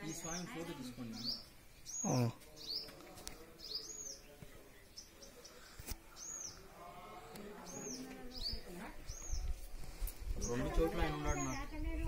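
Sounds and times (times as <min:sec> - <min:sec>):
bird chirping: 0:00.0 - 0:09.6, 0:10.3 - 0:12.0
faint distant voices: 0:00.0 - 0:12.0.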